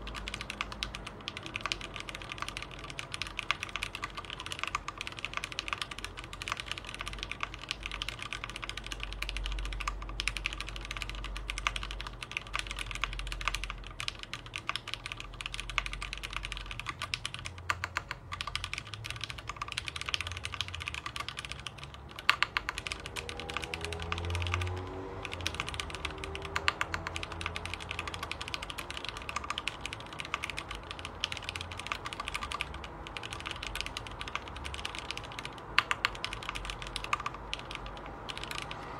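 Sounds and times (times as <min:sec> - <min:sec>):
typing on a computer keyboard: 0:00.0 - 0:38.9.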